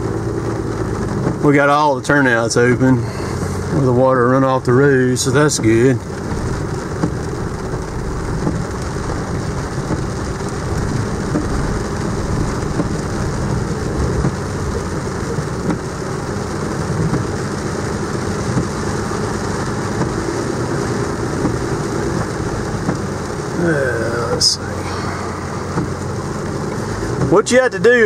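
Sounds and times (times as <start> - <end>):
rain on truck: 0.0 - 28.0
truck engine and road noise: 0.0 - 28.0.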